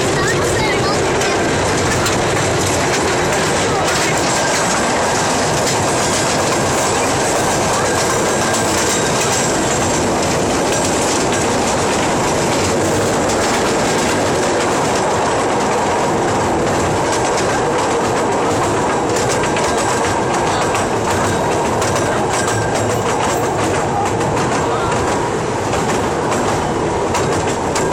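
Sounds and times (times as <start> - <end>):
train rumbling on rails: 0.0 - 27.9
wheels clicking over rail joints: 0.0 - 27.9.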